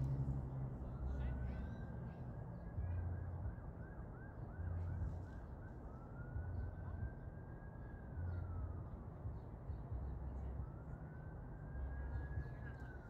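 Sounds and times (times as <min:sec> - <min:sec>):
emergency vehicle siren: 0:00.0 - 0:13.0.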